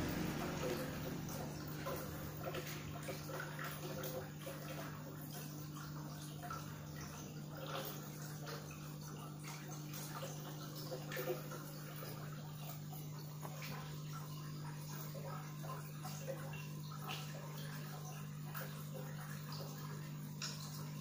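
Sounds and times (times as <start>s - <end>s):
aquarium pump humming: 0.0s - 21.0s
water trickling and gurgling: 0.0s - 21.0s.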